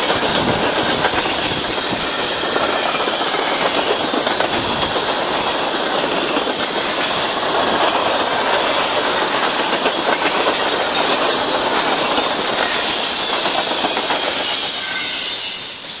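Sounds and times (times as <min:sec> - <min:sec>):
train wheels clattering over rail joints: 0:00.0 - 0:16.0.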